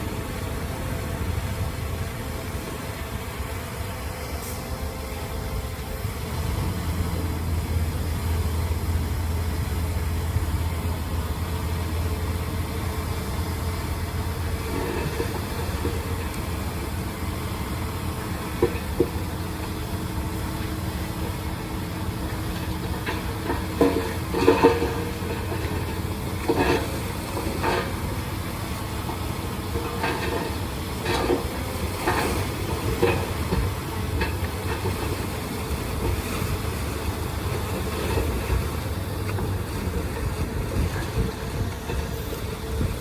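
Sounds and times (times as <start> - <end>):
diesel engine rumble: 0.0 - 43.0.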